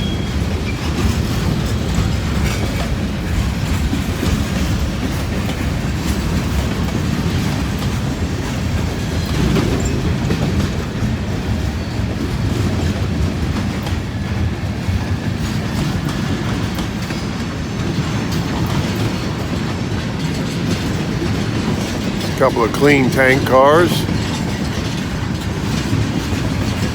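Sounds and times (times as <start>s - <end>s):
clickety-clack of wheels on rail joints: 0.0s - 26.9s
freight train rumbling: 0.0s - 26.9s.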